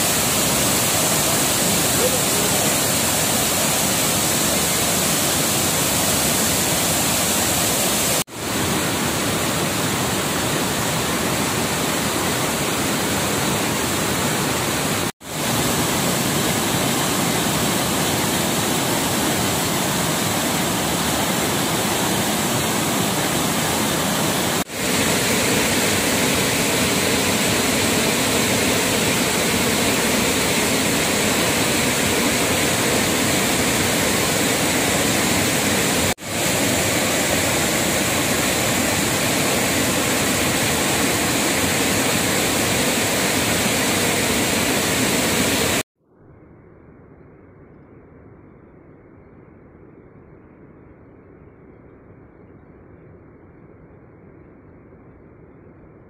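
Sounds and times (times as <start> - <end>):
waterfall rushing: 0.0 - 45.8.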